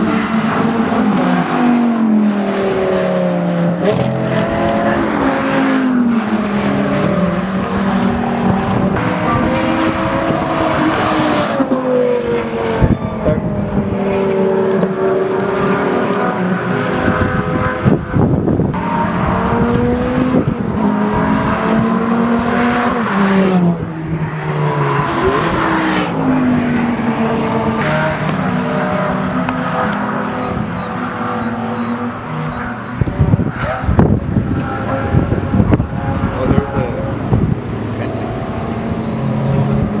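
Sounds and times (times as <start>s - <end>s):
sports car engines revving: 0.0s - 40.0s.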